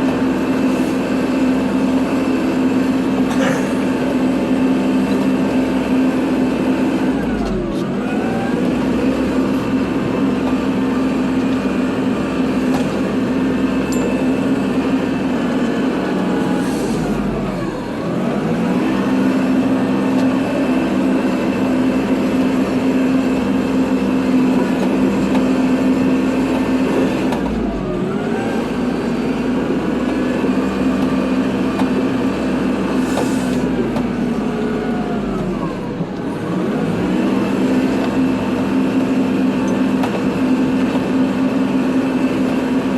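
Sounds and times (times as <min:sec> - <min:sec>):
tractor diesel engine under load: 0:00.0 - 0:42.9.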